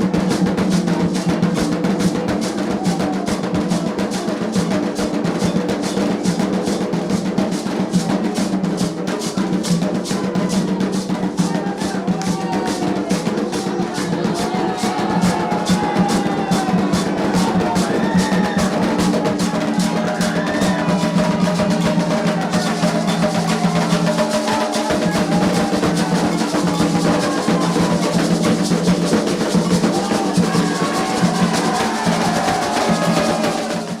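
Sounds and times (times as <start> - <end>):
fast dense drumming: 0.0 - 34.0
people singing: 0.0 - 34.0.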